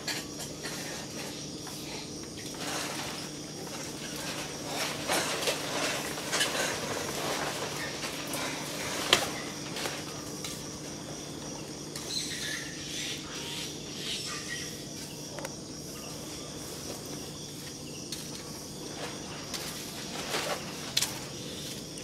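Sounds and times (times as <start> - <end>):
insect drone: 0.0 - 22.0.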